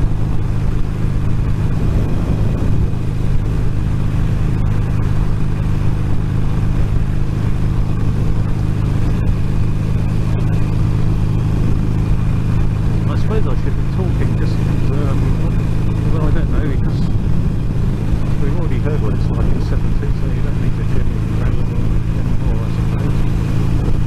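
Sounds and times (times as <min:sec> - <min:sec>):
wind noise in helmet: 0:00.0 - 0:13.1, 0:13.8 - 0:24.0
motorcycle engine drone: 0:00.0 - 0:24.0.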